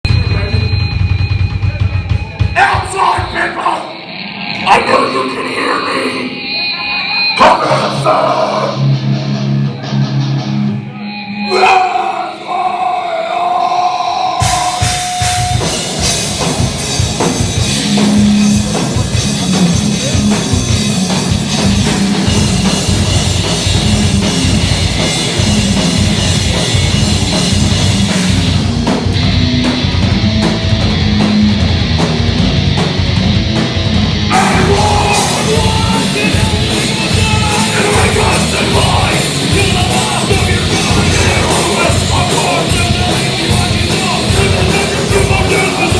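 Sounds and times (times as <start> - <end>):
heavy rock band playing: 0.0 - 45.9.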